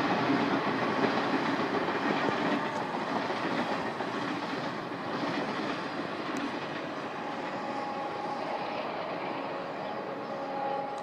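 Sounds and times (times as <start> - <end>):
train wheels rolling: 0.0 - 11.0.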